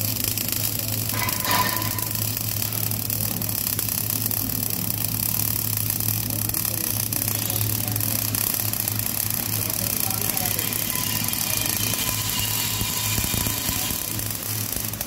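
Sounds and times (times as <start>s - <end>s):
welding arc crackling hiss: 0.0s - 15.0s.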